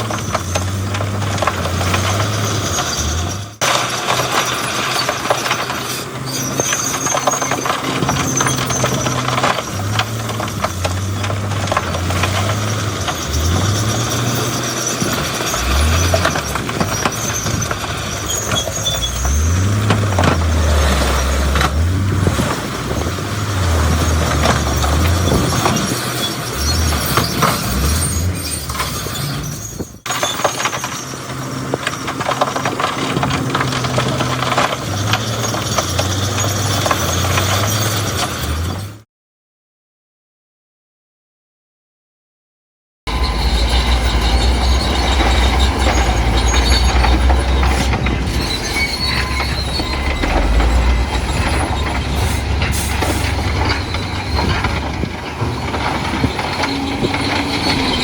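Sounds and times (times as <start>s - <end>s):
metal clanking: 0.0s - 38.8s, 43.1s - 58.0s
rock crunching: 0.0s - 38.9s, 43.1s - 58.0s
diesel engines revving: 0.0s - 39.0s, 43.1s - 58.0s
machinery squealing: 0.0s - 39.0s, 43.1s - 58.0s.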